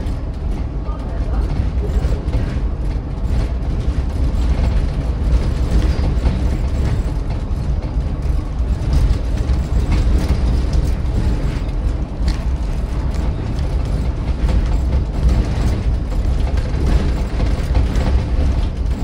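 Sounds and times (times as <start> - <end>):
bus engine and road rumble: 0.0 - 19.0
small rattles and clicks: 0.0 - 19.0.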